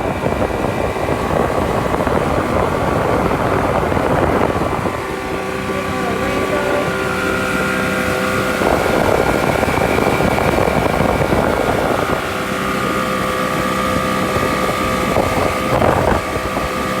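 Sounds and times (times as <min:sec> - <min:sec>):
motorboat engine running: 0:00.0 - 0:17.0
wind and water rushing: 0:00.0 - 0:17.0.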